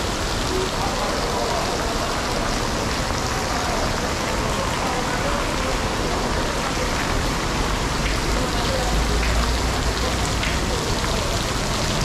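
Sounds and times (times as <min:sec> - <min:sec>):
rain on hard surfaces: 0:00.0 - 0:12.0.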